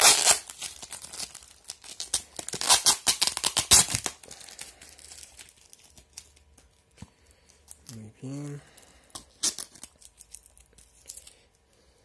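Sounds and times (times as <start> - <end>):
plastic wrapping crinkling and tearing: 0.0 - 11.5.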